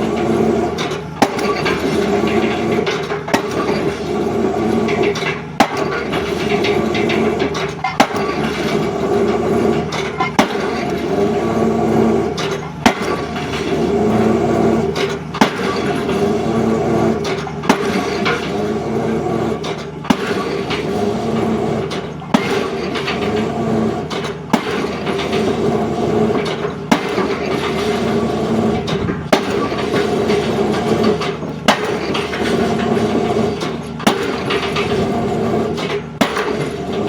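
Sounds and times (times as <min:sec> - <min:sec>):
diesel engine running: 0:00.0 - 0:37.0
drop hammer striking concrete pile: 0:00.1 - 0:37.0.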